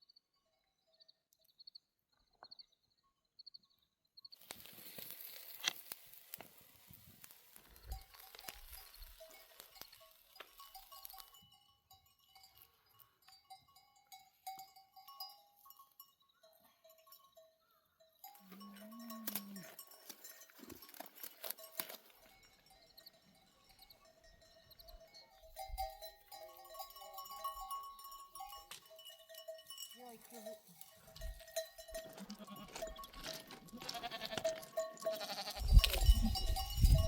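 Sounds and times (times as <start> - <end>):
sheep bells clinking: 4.4 - 37.0.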